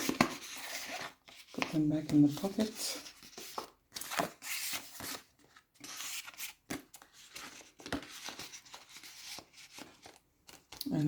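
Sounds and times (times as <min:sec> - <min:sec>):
paper rustling and scraping: 0:00.0 - 0:11.0.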